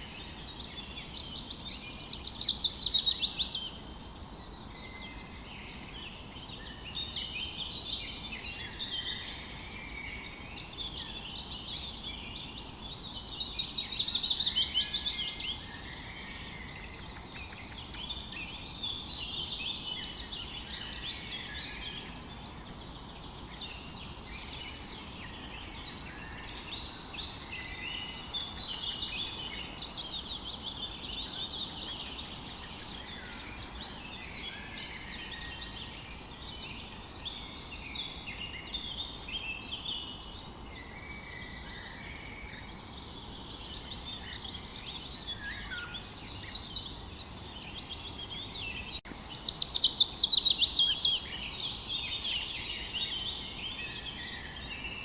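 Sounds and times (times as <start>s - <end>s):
faint outdoor hiss: 0.0s - 55.0s
songbirds chirping and trilling: 0.0s - 55.0s.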